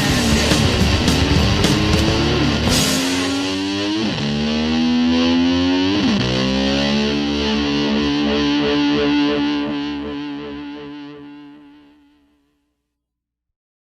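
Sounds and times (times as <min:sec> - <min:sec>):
distorted electric guitar chord: 0:00.0 - 0:12.4.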